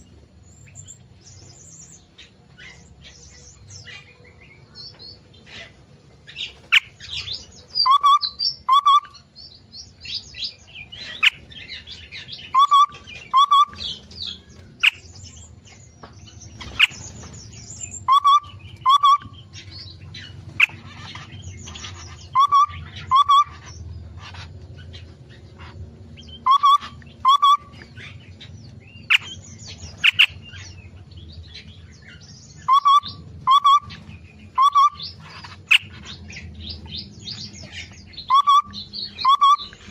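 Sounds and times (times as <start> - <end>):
high chirps and chattering: 6.3 - 39.9.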